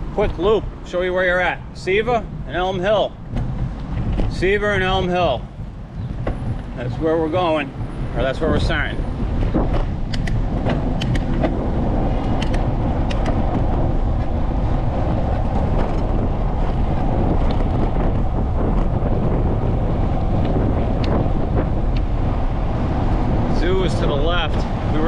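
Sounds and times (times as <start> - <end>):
wind on microphone: 0.0 - 25.0
bicycle tyres on pavement: 2.4 - 25.0.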